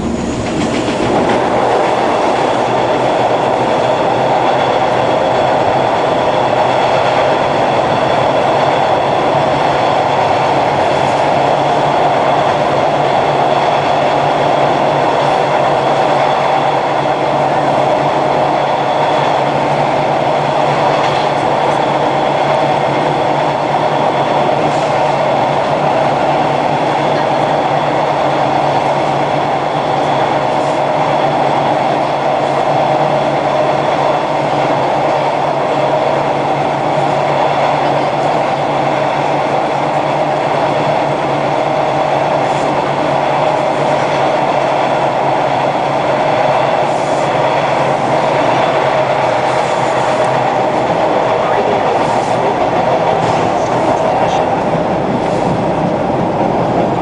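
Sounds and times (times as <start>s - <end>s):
subway car rumbling on track: 0.0s - 57.0s.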